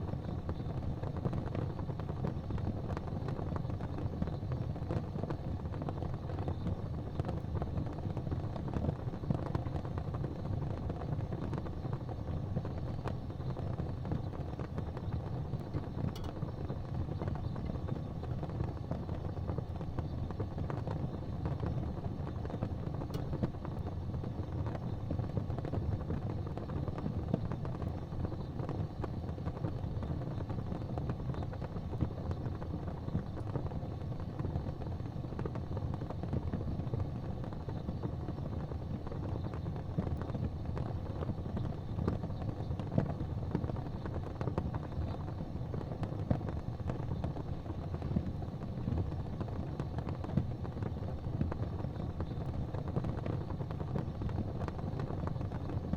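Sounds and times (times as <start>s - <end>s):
fire crackling in fireplace: 0.0s - 55.9s.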